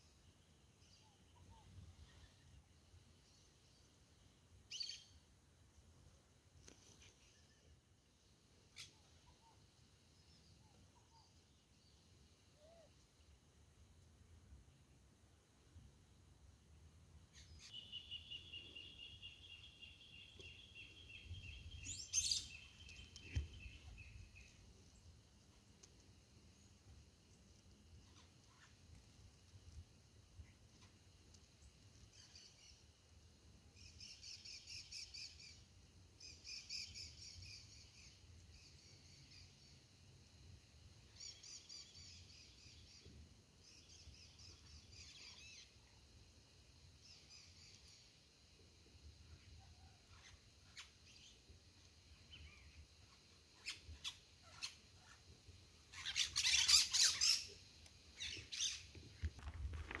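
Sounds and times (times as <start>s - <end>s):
small birds chirping: 0.0s - 5.3s, 6.6s - 13.4s, 17.3s - 33.1s, 33.7s - 60.0s.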